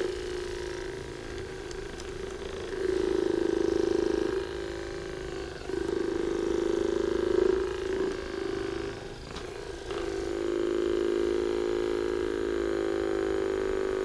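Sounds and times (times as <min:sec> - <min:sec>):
electric massager buzzing: 0:00.0 - 0:14.0.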